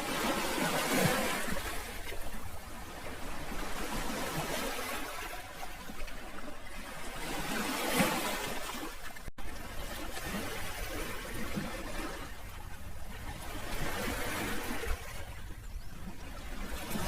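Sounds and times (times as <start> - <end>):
sea waves lapping on shore: 0.0 - 17.0.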